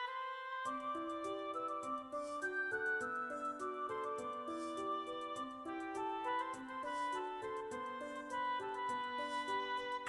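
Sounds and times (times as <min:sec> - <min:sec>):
gentle instrumental melody: 0:00.0 - 0:10.0
light ticking beat: 0:00.7 - 0:10.0.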